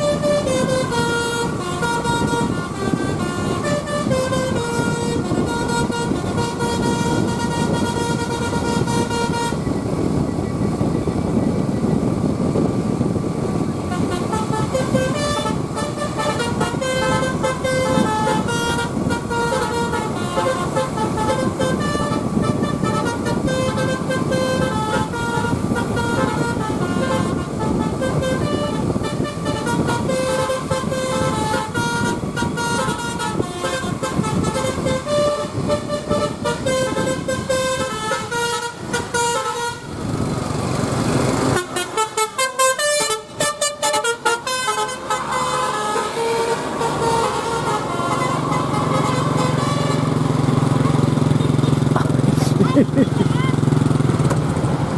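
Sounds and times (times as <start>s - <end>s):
multi-trumpet air horn tune: 0.0s - 9.7s, 13.8s - 39.9s, 41.5s - 50.2s
engine and road rumble: 0.0s - 54.9s.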